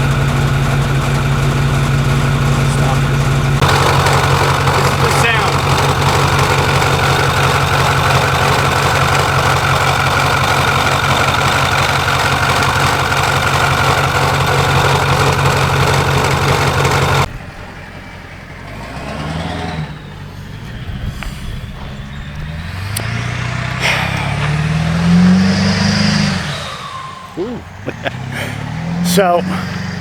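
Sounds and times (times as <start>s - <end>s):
diesel engine with high whine: 0.0s - 30.0s
engine revving: 0.0s - 30.0s.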